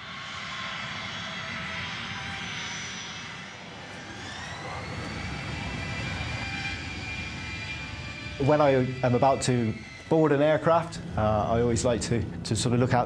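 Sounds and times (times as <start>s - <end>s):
jet engines rushing whine: 0.0s - 13.0s
jet engines spooling up: 0.0s - 13.0s
steady engine tones: 0.0s - 13.0s.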